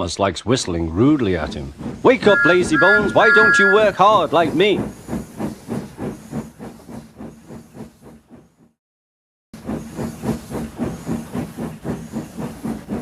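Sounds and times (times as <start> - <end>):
steam locomotive chuffing: 0.0 - 8.8, 9.6 - 13.0.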